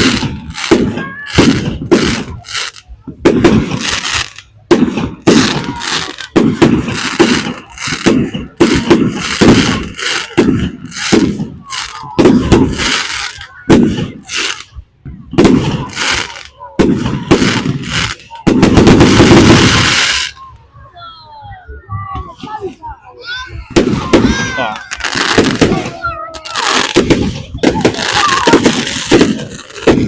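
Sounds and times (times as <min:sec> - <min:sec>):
fireworks exploding: 0:00.0 - 0:21.2, 0:21.9 - 0:30.0.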